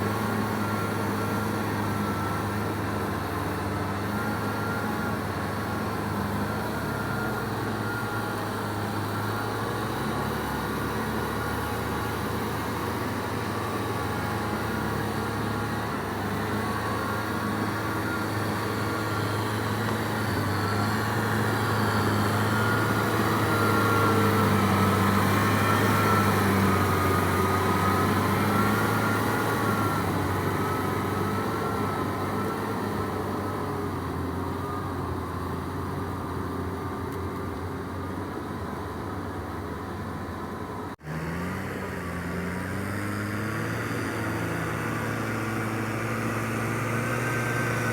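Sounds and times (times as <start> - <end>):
tractor diesel engine: 0.0 - 47.9.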